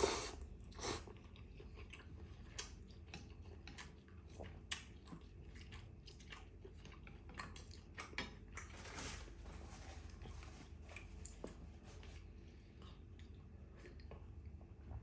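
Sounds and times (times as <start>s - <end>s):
close-up chewing and crunching: 0.0s - 9.0s, 9.9s - 15.0s.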